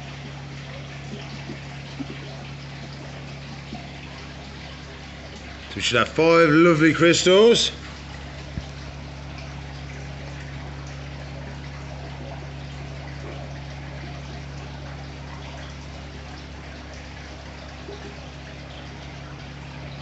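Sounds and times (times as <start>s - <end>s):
aquarium filter hum: 0.0s - 20.0s
water trickling: 0.0s - 20.0s.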